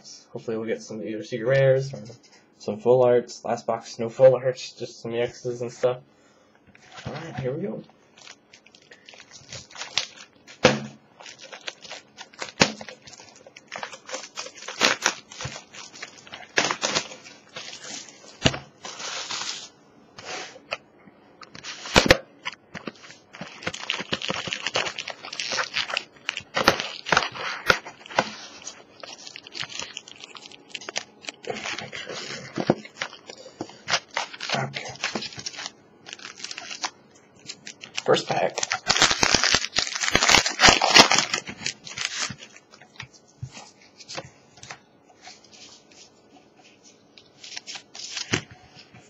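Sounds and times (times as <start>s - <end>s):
plastic wrapping crinkling: 6.7s - 20.8s, 21.4s - 49.0s
cardboard rustling: 8.2s - 20.8s, 21.4s - 36.9s, 37.6s - 49.0s.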